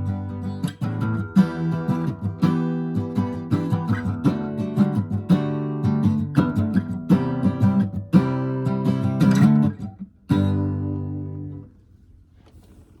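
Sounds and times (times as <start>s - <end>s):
acoustic guitar strumming: 0.0s - 11.7s.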